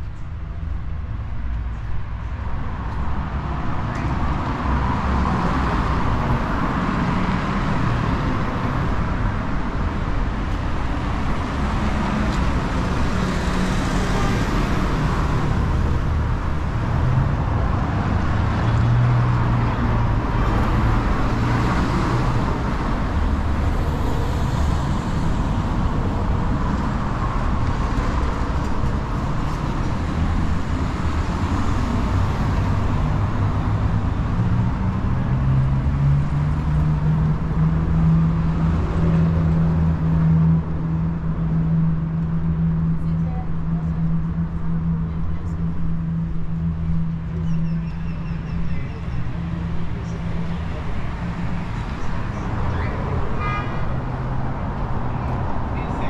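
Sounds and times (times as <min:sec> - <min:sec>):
cars passing: 0:00.0 - 0:56.0
heavy vehicle engine hum: 0:00.0 - 0:56.0.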